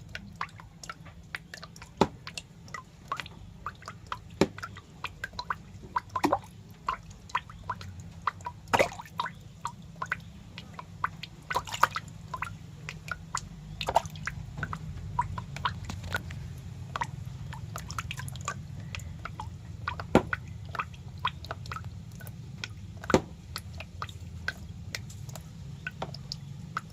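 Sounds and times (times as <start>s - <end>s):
wet clicks and squelching drips: 0.0s - 26.9s.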